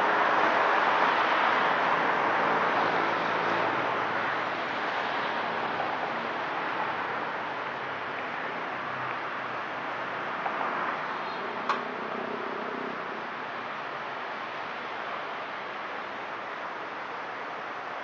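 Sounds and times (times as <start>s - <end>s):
road traffic rushing: 0.0s - 18.0s.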